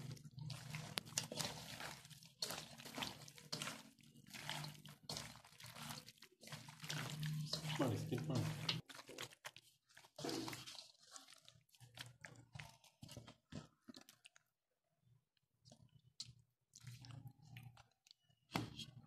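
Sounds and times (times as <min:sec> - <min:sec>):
wet squishing of hand kneading: 0:00.0 - 0:19.0.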